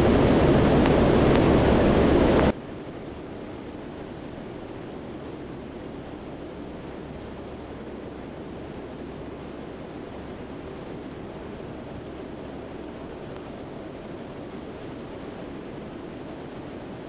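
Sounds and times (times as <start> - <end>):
turboprop aircraft cabin drone: 0.0 - 17.0.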